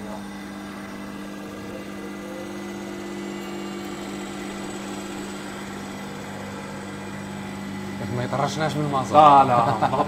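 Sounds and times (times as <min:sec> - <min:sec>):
test bench motor humming: 0:00.0 - 0:10.0.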